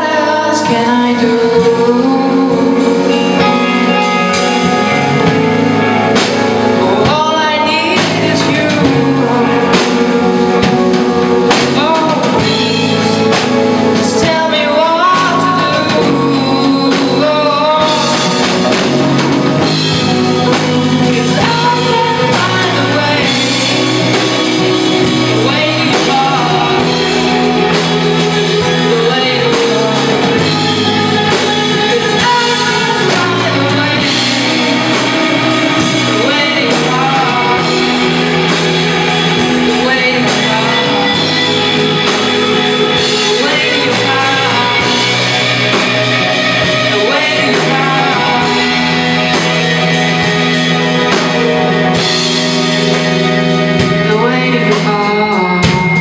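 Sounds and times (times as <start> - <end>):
rock band with guitar: 0.0 - 56.0.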